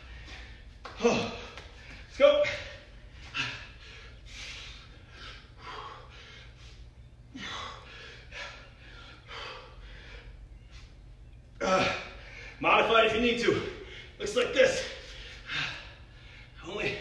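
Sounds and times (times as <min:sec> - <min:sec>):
man breathing hard: 0:00.0 - 0:11.0, 0:11.6 - 0:12.6, 0:13.6 - 0:14.2, 0:14.8 - 0:17.0.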